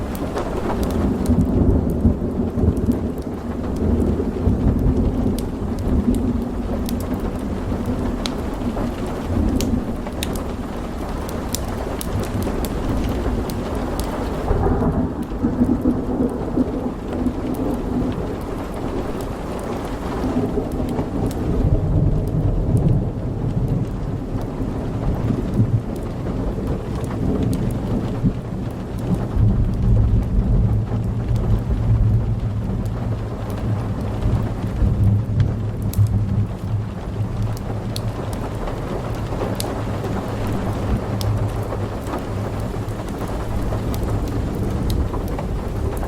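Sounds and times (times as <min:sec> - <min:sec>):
fireplace crackles: 0:00.0 - 0:46.0
rolling thunder: 0:00.0 - 0:46.0
steady rain: 0:00.0 - 0:46.0.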